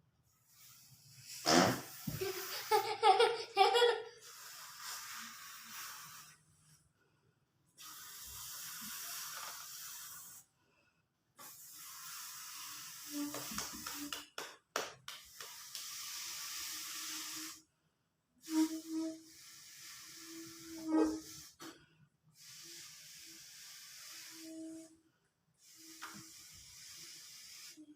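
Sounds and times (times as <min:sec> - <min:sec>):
air hissing into a balloon: 0:00.4 - 0:06.8, 0:07.8 - 0:10.8, 0:11.4 - 0:14.4, 0:15.2 - 0:17.7, 0:18.4 - 0:25.0, 0:25.6 - 0:27.9.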